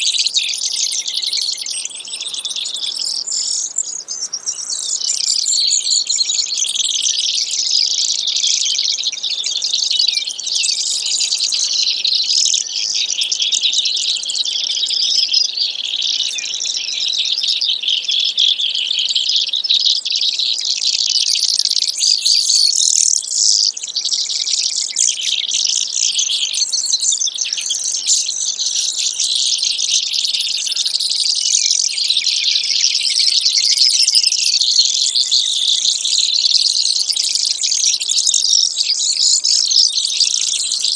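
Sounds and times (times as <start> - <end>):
sparrow trilling song: 0.0 - 40.9.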